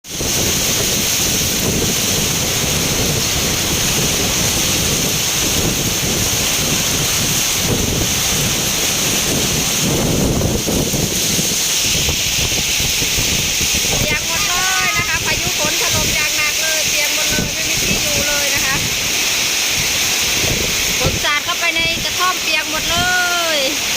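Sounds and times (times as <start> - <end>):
heavy rain pouring: 0.0 - 23.9
wind buffeting microphone: 0.0 - 23.9.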